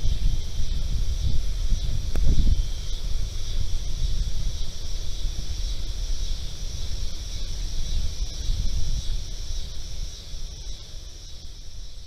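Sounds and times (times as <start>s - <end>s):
high-pitched insect chorus: 0.0s - 12.0s
wind buffeting microphone: 0.0s - 12.0s.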